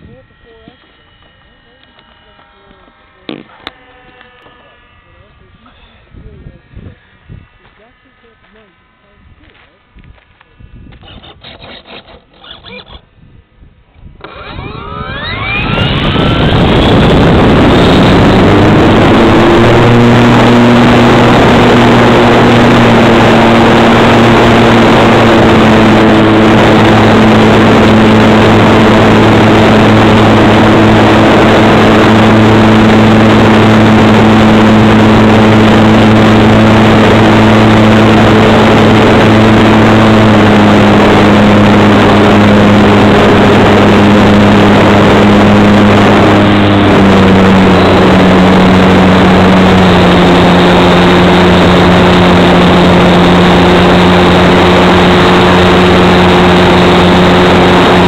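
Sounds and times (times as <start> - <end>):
model plane electric motor whine: 0.0 - 58.0
wind rushing over microphone: 4.8 - 8.0, 9.2 - 11.6, 13.0 - 58.0.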